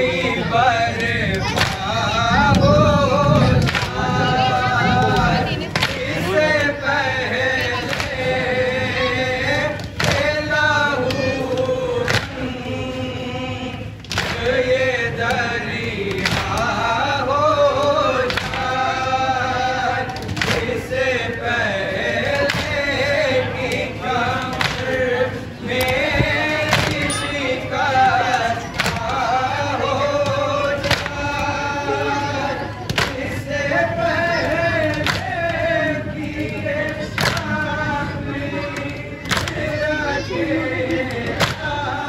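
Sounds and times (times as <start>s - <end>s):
men chanting a lament: 0.0s - 42.0s.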